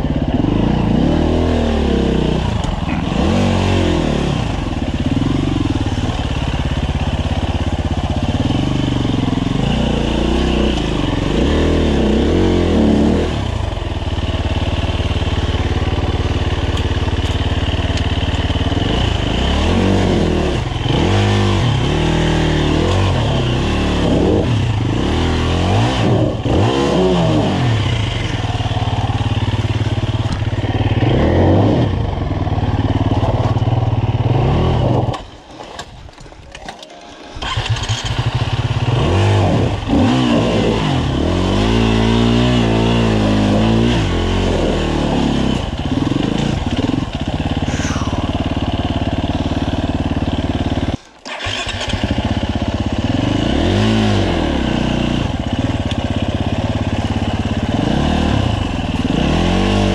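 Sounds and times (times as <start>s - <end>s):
motorcycle engine revving: 0.0s - 36.2s, 37.1s - 59.9s.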